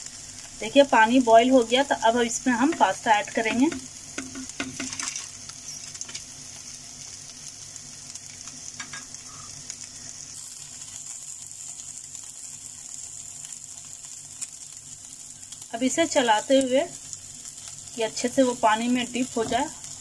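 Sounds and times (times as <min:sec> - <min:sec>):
sizzling and bubbling cooking: 0:00.0 - 0:20.0.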